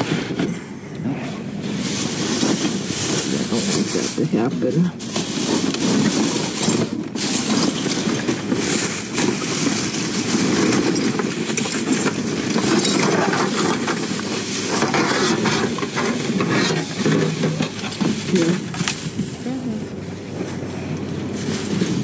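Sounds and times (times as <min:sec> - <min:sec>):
plastic garbage bags rustling: 0:01.6 - 0:22.0.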